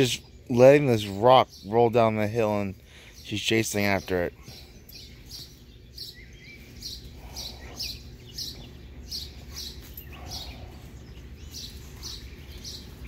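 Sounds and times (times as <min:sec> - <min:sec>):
bird chirping: 0:00.0 - 0:13.0
low background rumble: 0:00.0 - 0:13.0.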